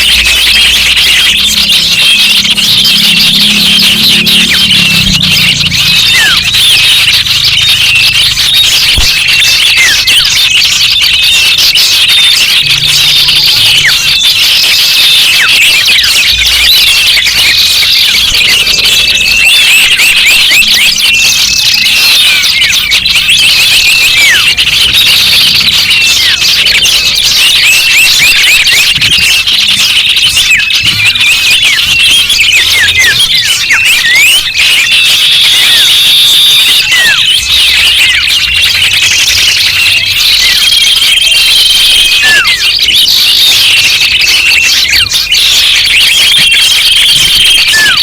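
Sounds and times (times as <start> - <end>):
chorus of small birds chirping: 0.0 - 48.0.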